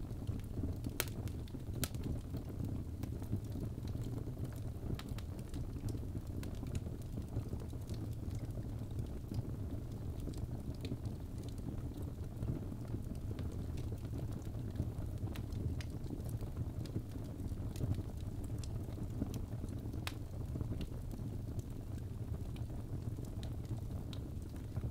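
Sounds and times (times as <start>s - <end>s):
fire crackling and popping: 0.0s - 24.9s
low rumble of flames: 0.0s - 24.9s.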